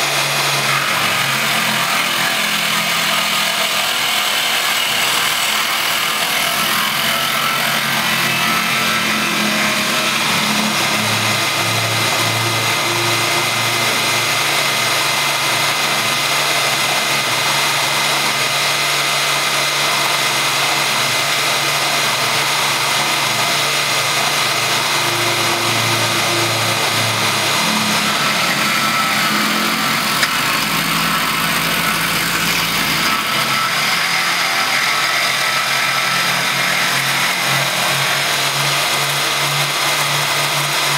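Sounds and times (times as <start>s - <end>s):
milling spindle whine: 0.0s - 40.9s.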